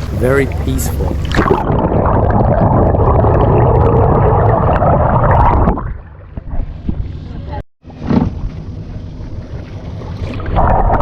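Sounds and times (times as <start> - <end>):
moving boat rushing: 0.0 - 11.0.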